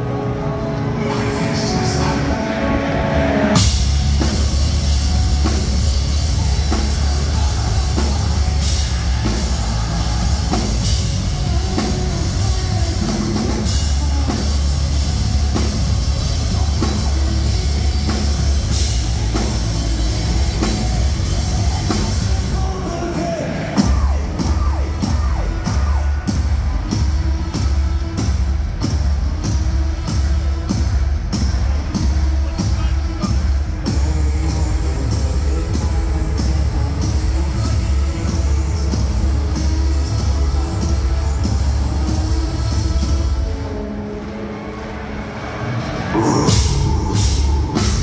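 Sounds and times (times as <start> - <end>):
deep bass: 0.0 - 43.6, 45.8 - 48.0
metal band playing live: 0.0 - 48.0
heavy drums: 0.8 - 48.0.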